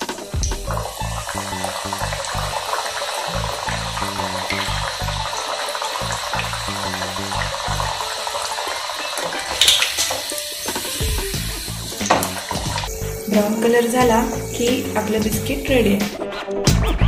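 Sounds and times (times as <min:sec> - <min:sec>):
sizzling hiss of deep-frying oil: 0:00.0 - 0:16.1
background music: 0:00.0 - 0:17.0.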